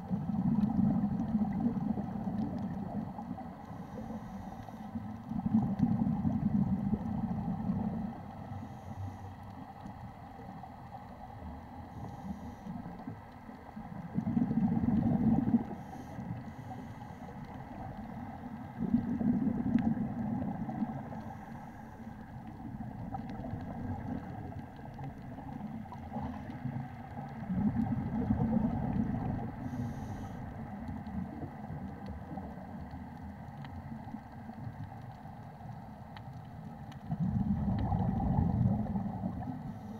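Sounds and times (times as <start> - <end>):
underwater bubbles rumbling: 0.0 - 39.9.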